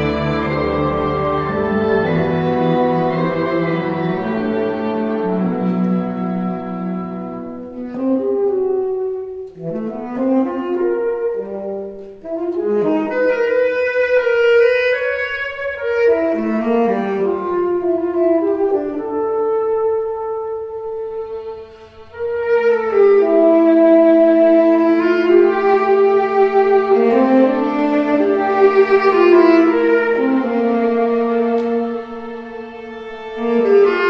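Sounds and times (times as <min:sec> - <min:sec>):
bowed strings and woodwinds: 0:00.0 - 0:34.0
tenor saxophone: 0:00.0 - 0:34.0.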